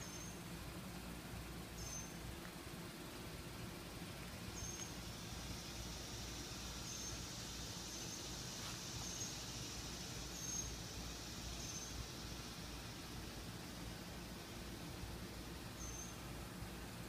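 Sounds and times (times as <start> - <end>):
high chirp of bird or insect: 0.0 - 0.6, 1.7 - 2.3, 4.1 - 16.7
low background noise: 0.0 - 17.0.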